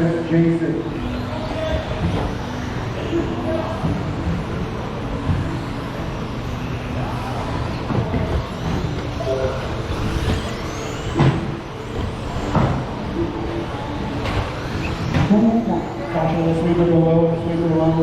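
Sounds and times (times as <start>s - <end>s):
motor whines rising in pitch: 0.0s - 18.0s
rc truck motors and tyres: 0.0s - 18.0s.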